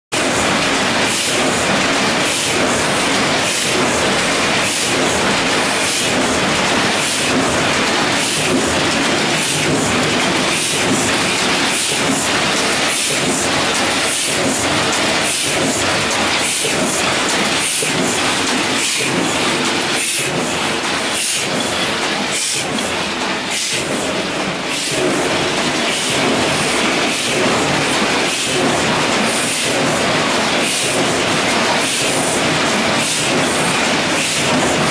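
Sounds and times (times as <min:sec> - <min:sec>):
printing press mechanical clatter: 0:00.1 - 0:34.9.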